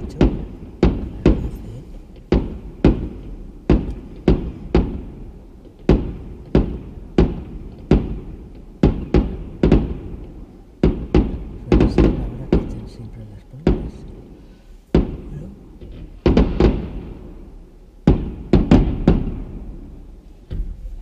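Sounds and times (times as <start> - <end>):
fireworks bangs with echo: 0.0 - 21.0.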